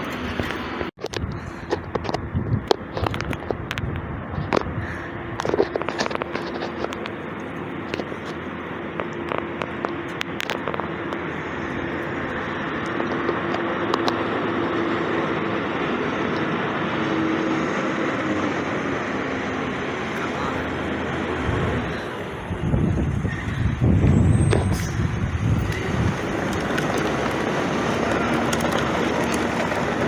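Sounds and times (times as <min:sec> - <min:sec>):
garbage truck running with whine: 0:00.0 - 0:30.0.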